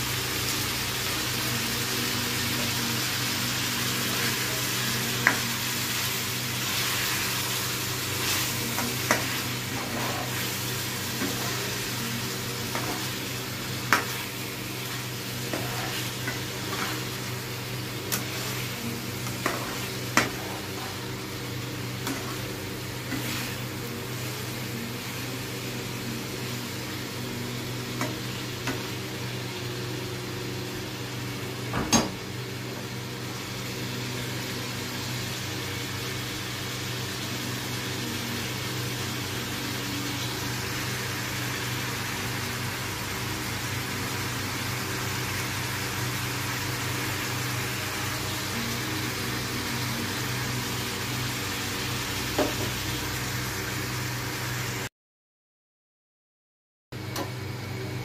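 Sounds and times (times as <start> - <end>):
chicken sizzling in oil: 0.0 - 54.9.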